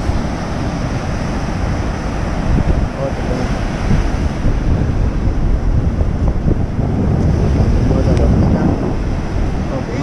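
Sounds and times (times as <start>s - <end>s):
surf breaking on shore: 0.0s - 10.0s
wind buffeting microphone: 0.0s - 10.0s.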